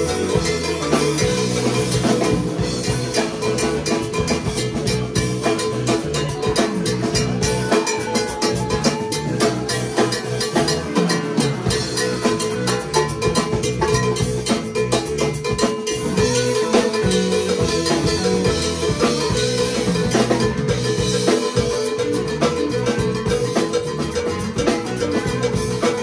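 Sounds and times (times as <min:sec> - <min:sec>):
deep bass line: 0:00.0 - 0:26.0
electric guitar and keyboards: 0:00.0 - 0:26.0
timbales and drums: 0:00.0 - 0:26.0.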